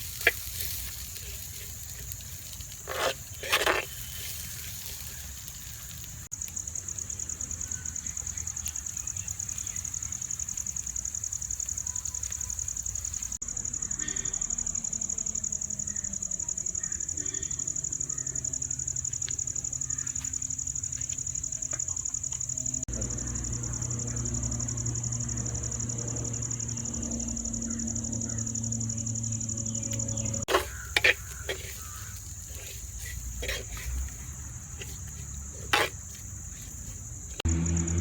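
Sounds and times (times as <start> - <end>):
high-pitched insect trill: 0.0 - 38.0.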